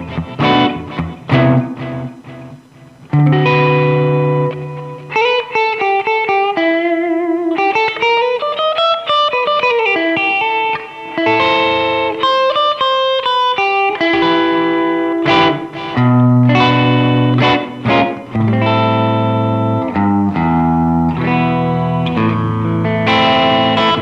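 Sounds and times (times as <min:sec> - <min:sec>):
electric guitar chords ringing: 0:00.0 - 0:24.0
electric guitar lead line: 0:00.0 - 0:24.0.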